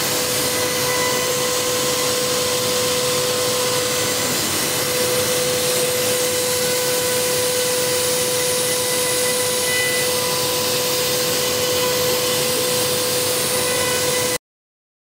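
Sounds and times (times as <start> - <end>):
machine whine and hiss: 0.0 - 14.4.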